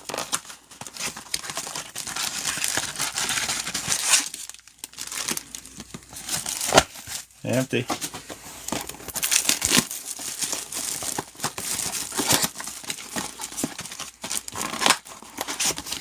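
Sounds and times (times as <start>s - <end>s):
foil wrappers crinkling and tearing: 0.0s - 16.0s.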